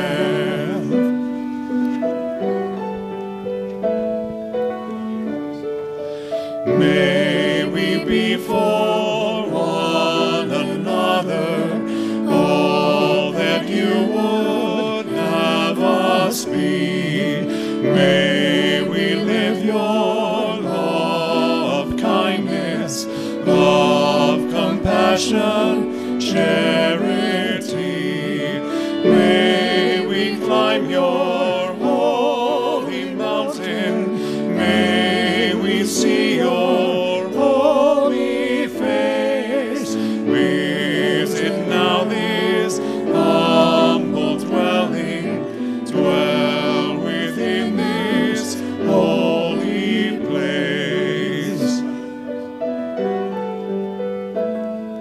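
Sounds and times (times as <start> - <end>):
people singing a hymn: 0.0 - 3.2, 4.6 - 53.3
instrumental accompaniment: 0.0 - 55.0.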